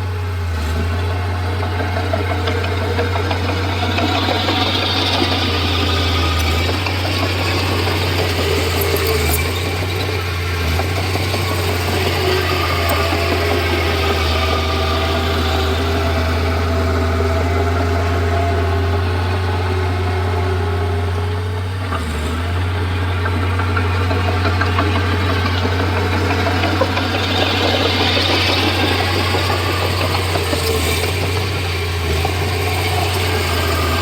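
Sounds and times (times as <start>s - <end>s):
bulldozer diesel engine running: 0.0s - 34.0s
light clatter: 0.8s - 34.0s.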